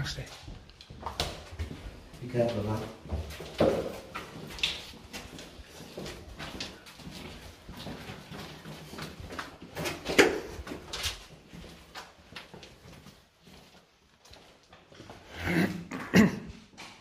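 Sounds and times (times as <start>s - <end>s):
irregular knocks and scuffs: 0.0s - 15.3s.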